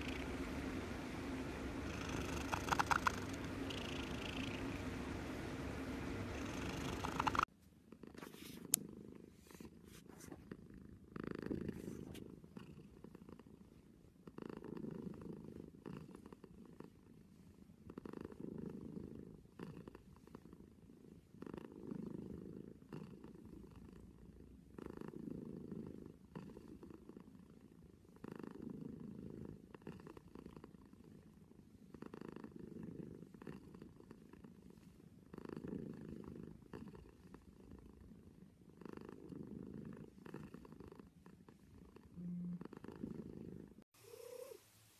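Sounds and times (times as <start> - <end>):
cat purring: 0.0 - 44.8.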